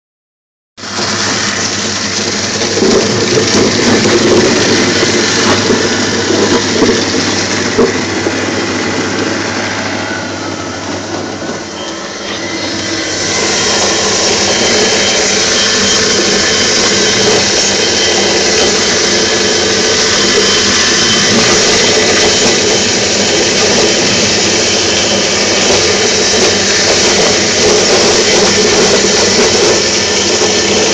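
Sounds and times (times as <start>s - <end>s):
apple pulping machine running: 0.8s - 30.9s.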